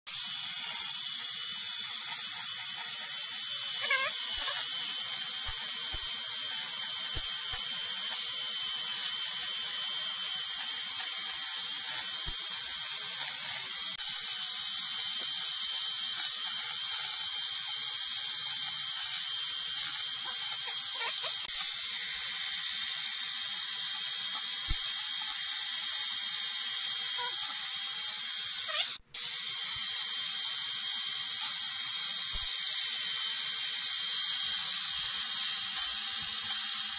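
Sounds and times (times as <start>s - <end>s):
high-pitched chainsaw buzz: 0.1s - 36.9s.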